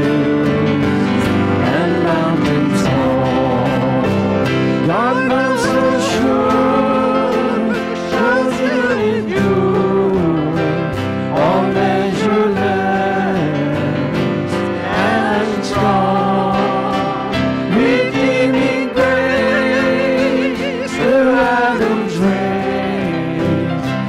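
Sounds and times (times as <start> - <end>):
acoustic guitar: 0.0 - 24.0
group singing into microphones: 0.0 - 24.0
piano: 0.0 - 24.0.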